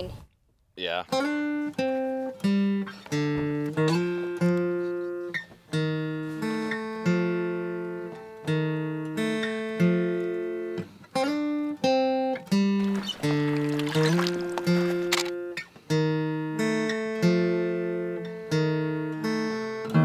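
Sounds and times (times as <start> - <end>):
acoustic guitar playing: 1.1 - 20.0.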